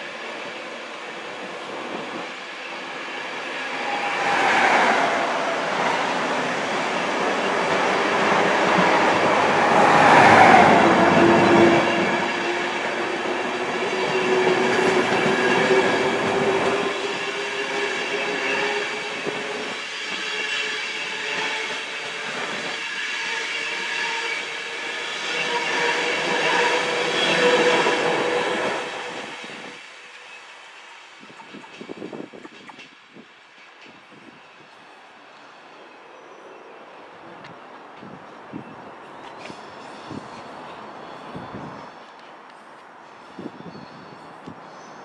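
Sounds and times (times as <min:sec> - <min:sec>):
train whining hum: 0:00.0 - 0:45.0.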